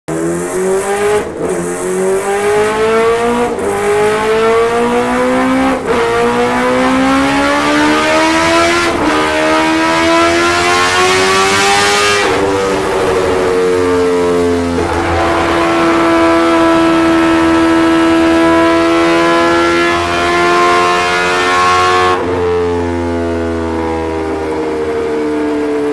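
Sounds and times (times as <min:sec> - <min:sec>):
motorcycle engine revving: 0:00.1 - 0:25.8.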